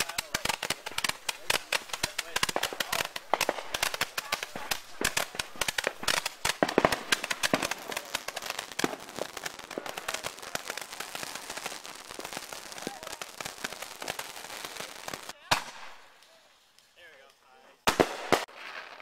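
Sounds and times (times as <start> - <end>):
fireworks popping and crackling: 0.0 - 19.0.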